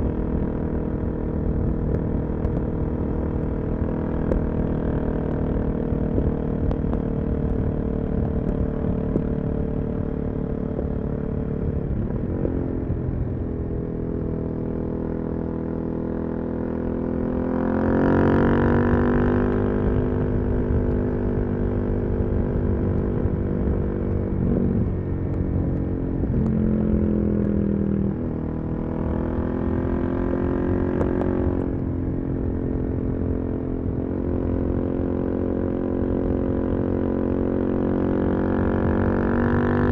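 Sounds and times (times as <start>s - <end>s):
motorcycle engine: 0.0s - 39.9s
wind and road rumble: 0.0s - 39.9s.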